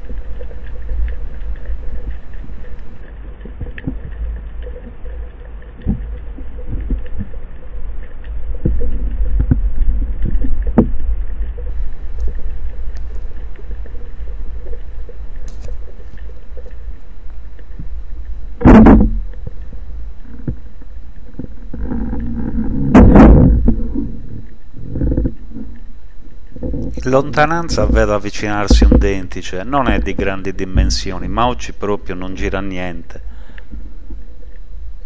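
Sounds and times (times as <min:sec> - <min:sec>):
underwater low rumble: 0:00.0 - 0:35.0.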